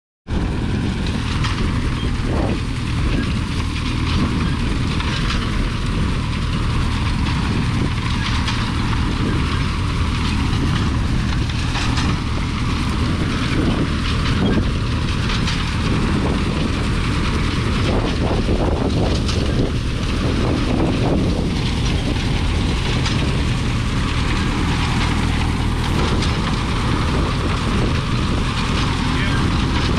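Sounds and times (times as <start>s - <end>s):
constant low drone: 0.3s - 29.9s
grain binder mechanical clatter: 0.4s - 29.9s.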